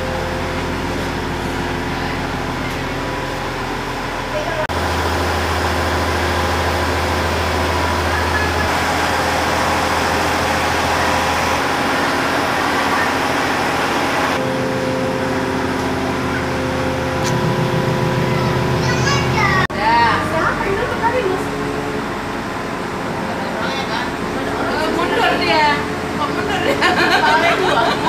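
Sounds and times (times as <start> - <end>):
diesel train rumbling: 0.0 - 28.0
droning engine hum: 0.0 - 28.0.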